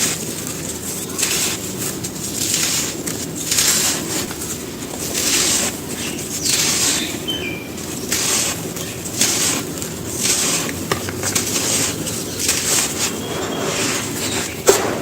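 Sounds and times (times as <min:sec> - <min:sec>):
sand-cement crumbling: 0:00.0 - 0:15.0.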